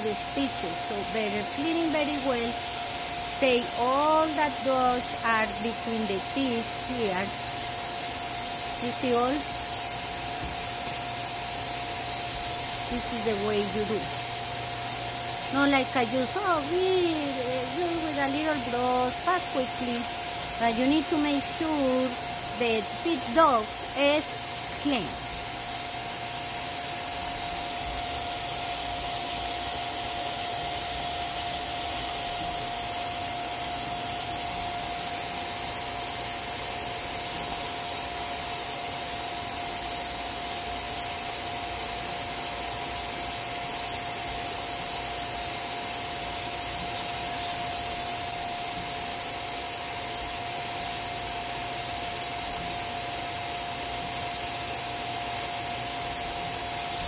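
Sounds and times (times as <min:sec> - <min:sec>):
small vacuum cleaner whining: 0:00.0 - 0:57.0.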